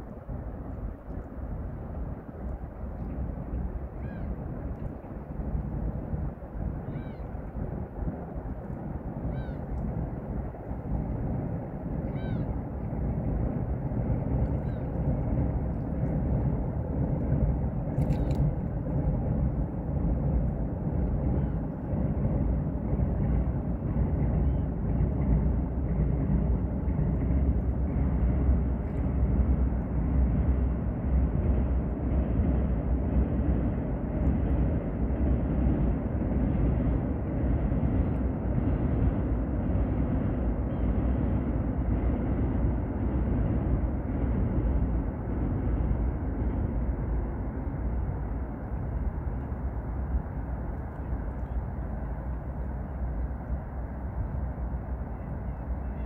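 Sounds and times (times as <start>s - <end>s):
distant city traffic rumble: 0.0s - 56.0s.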